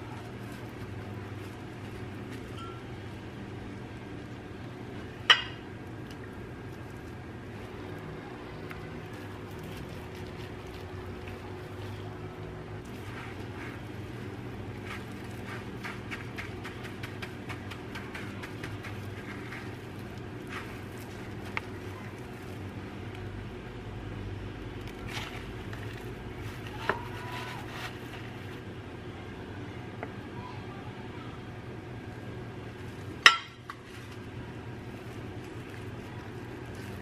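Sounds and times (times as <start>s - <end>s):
plastic glove rustling: 0.0s - 23.3s, 24.8s - 28.7s, 32.6s - 37.0s
breadcrumbs crackling: 0.0s - 28.7s, 32.0s - 37.0s
low background hum: 0.0s - 37.0s.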